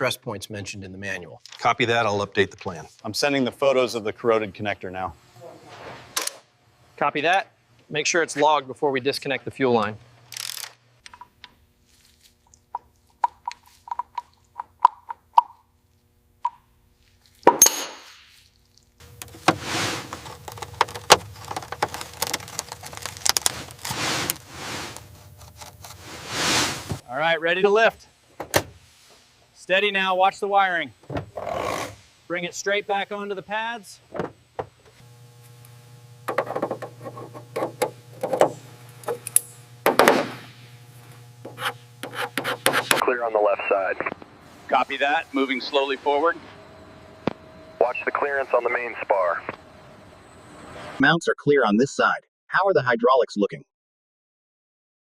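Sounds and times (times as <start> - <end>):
steady low hum: 2.2 - 51.0.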